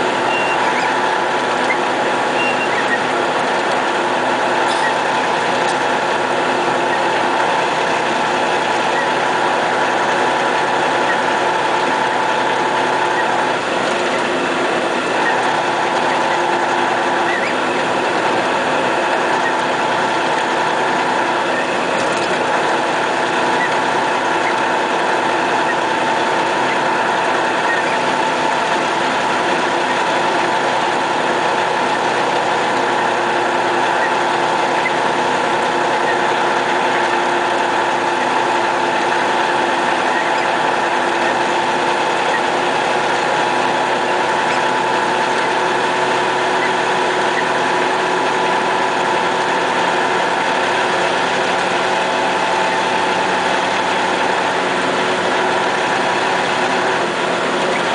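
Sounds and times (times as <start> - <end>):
diesel truck engine running: 0.0 - 57.9
steady whine: 0.0 - 57.9.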